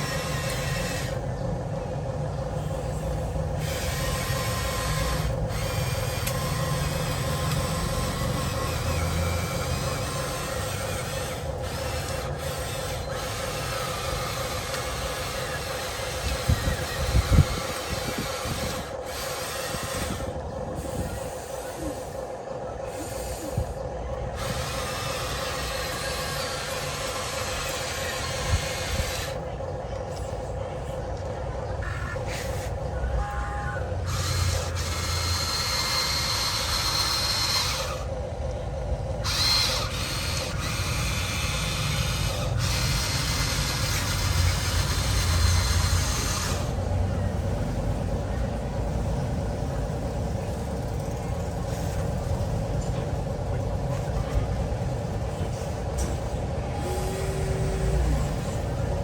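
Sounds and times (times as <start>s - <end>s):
electric motors whining: 0.0s - 59.0s
low engine-like drone: 0.0s - 59.0s.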